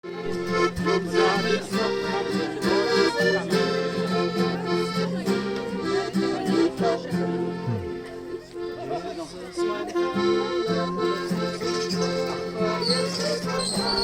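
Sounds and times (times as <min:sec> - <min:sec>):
instrumental music with held chords: 0:00.0 - 0:13.6.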